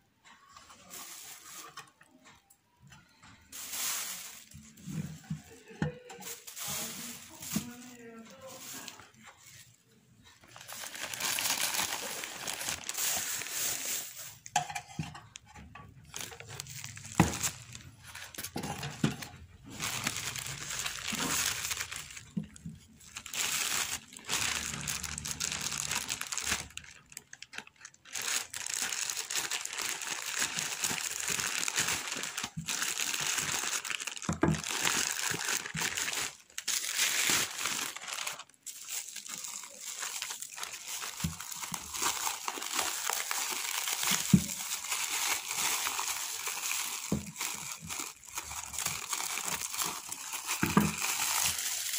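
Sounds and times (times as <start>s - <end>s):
plastic packaging crinkling: 0.5s - 2.4s, 3.2s - 51.9s.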